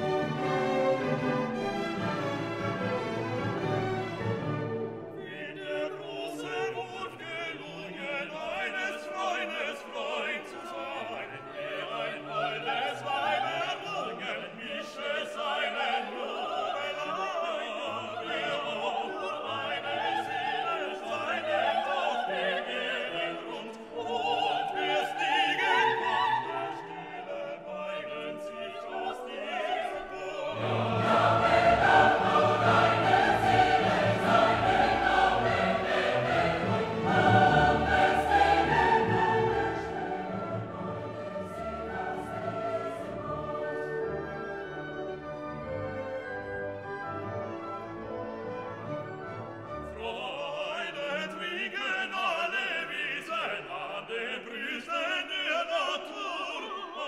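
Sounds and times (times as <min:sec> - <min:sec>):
classical singing with orchestra: 0:00.0 - 0:57.0.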